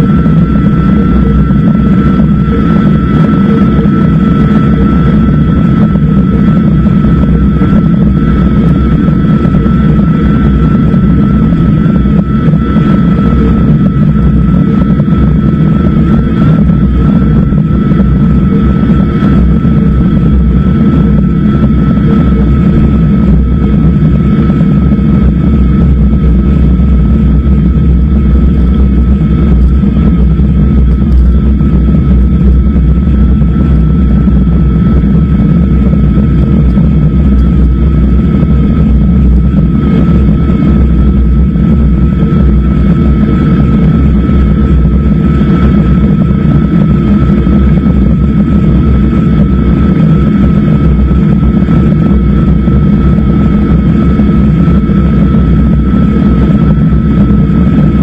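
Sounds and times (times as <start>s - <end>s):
wind buffeting: 0.0s - 58.0s.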